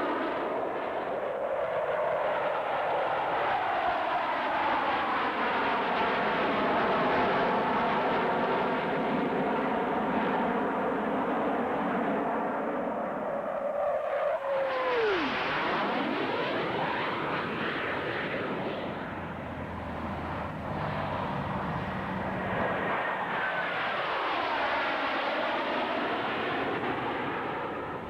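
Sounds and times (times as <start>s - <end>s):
airplane engine flying past: 1.8s - 28.0s.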